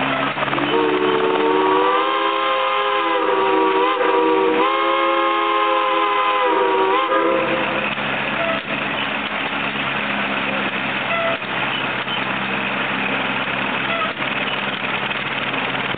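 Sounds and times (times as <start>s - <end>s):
engine running steadily: 0.0s - 15.9s.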